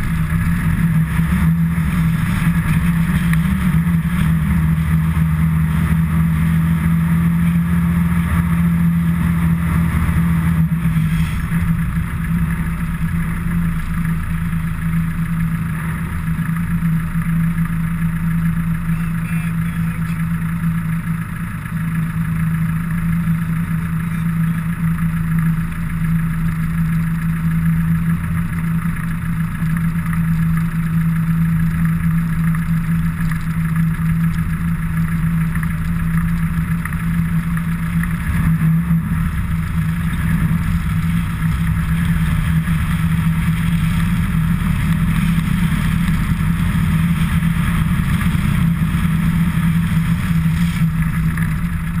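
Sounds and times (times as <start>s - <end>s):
vehicle engine running steadily: 0.0s - 52.0s.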